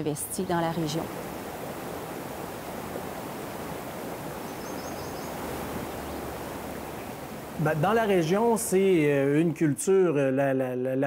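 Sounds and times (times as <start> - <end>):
river water flowing over rocks: 0.0 - 9.4.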